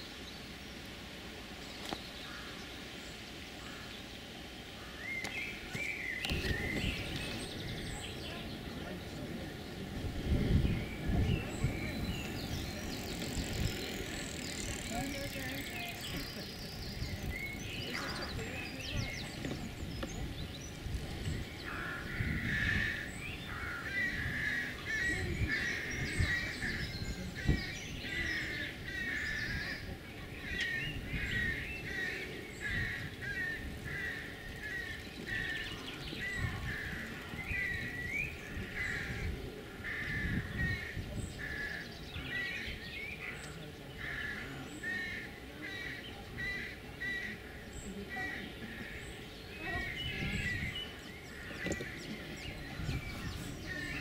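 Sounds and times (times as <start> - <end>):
wild birds singing: 0.0 - 54.0.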